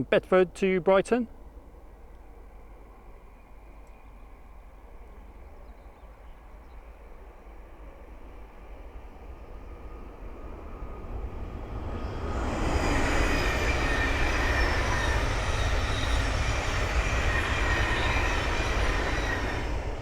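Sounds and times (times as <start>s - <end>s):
train wheels rumbling on rails: 1.3s - 20.0s.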